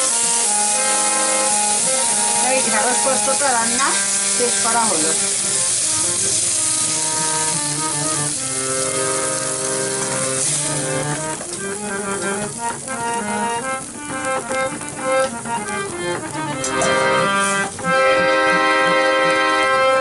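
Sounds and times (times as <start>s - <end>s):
instrumental music of held chords: 0.0s - 20.0s.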